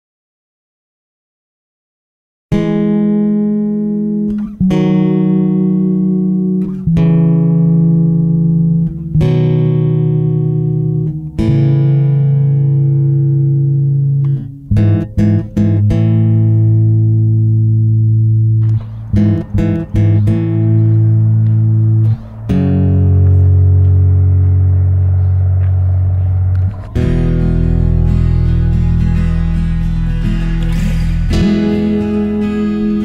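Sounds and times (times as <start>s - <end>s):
music with held chords: 2.5s - 33.0s.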